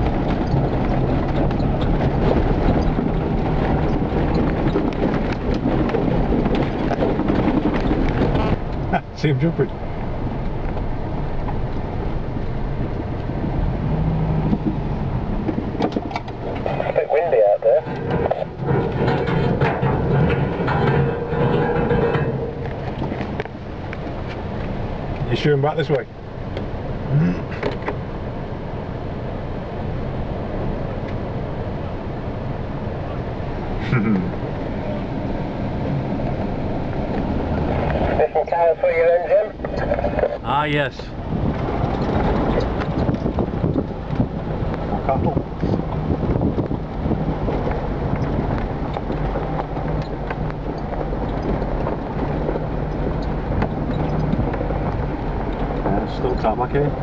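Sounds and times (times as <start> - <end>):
wind buffeting microphone: 0.0 - 25.4, 26.0 - 57.0
engine low rumble: 0.0 - 57.0.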